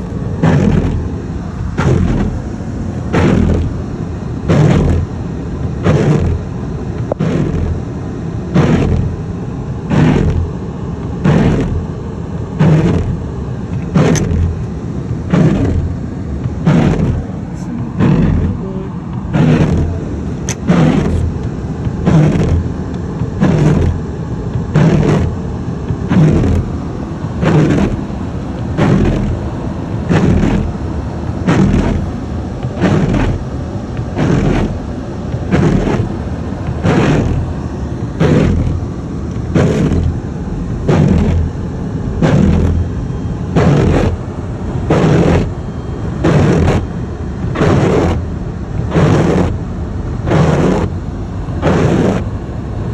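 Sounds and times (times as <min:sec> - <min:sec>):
windshield wipers swishing: 0:00.0 - 0:52.3
car engine idling: 0:00.0 - 0:52.9.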